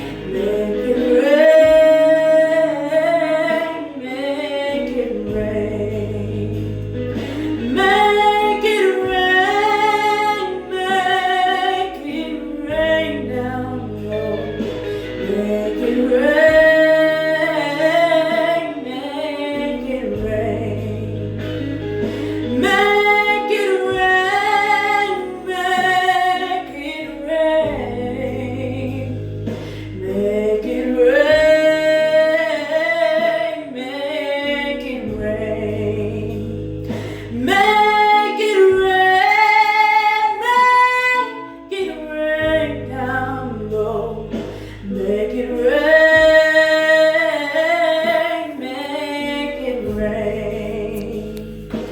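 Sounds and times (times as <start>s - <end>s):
bass: 0.0s - 51.9s
guitar: 0.0s - 51.9s
person singing: 0.0s - 51.9s.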